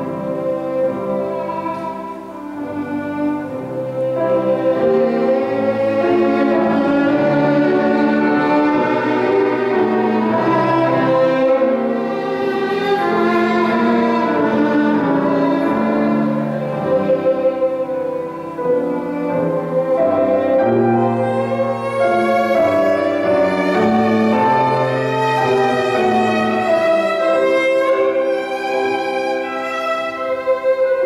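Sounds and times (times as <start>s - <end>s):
piano chords: 0.0s - 31.0s
violin melody: 0.0s - 31.0s.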